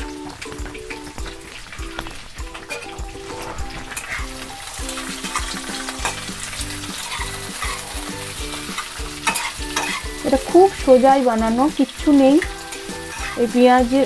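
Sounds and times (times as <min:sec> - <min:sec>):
background music with steady beat: 0:00.0 - 0:14.0
food sizzling in hot oil: 0:00.0 - 0:14.0
spatula scraping pan: 0:00.0 - 0:14.0.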